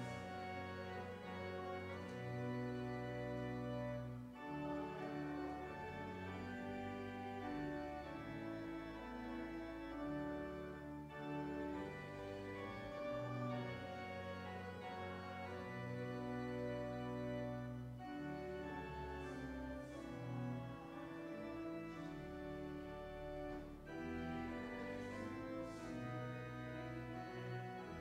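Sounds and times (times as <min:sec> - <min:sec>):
church organ playing a hymn: 0:00.0 - 0:28.0.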